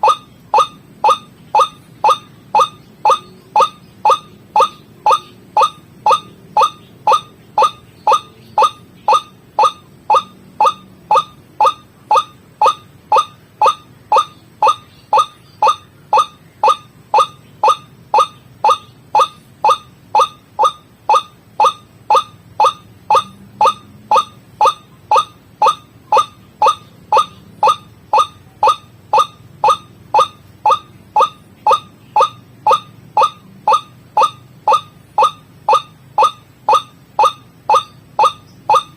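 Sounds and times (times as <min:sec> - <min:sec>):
waterhen call: 0:00.0 - 0:38.9.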